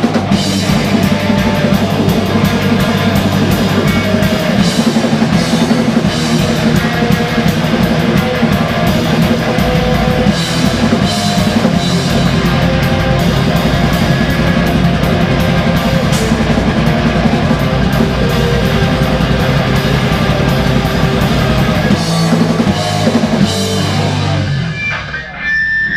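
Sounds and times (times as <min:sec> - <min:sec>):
live rock band: 0:00.0 - 0:25.9.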